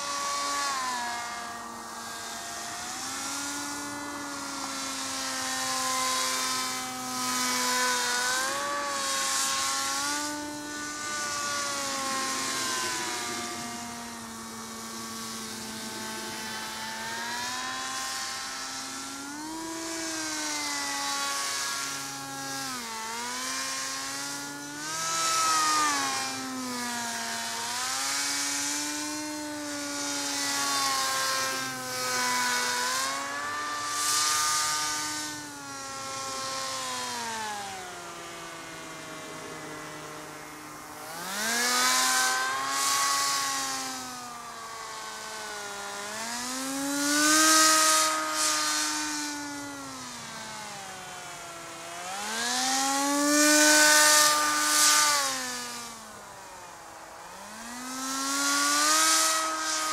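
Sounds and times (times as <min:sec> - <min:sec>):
electric motor and propeller whine: 0:00.0 - 0:59.9.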